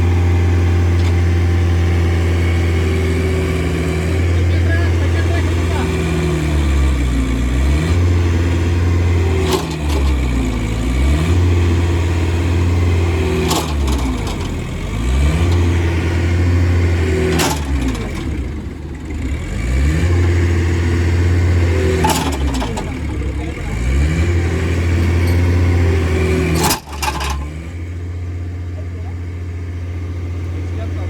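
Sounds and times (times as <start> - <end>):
diesel engine revving under load: 0.0 - 31.0.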